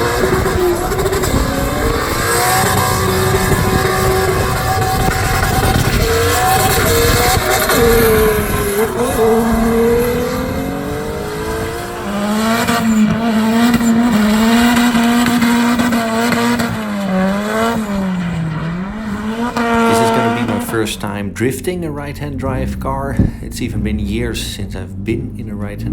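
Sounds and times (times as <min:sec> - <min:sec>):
car engine at high revs: 0:00.0 - 0:25.9
tyres squealing: 0:00.0 - 0:25.9.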